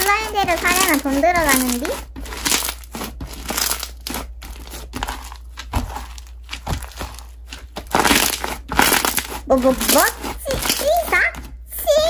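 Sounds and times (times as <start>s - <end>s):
slime crackling and squishing: 0.0s - 12.0s.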